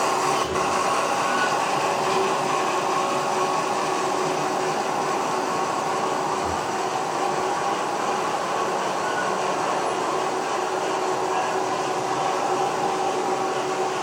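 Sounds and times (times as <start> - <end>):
model train whirring: 0.0 - 14.0.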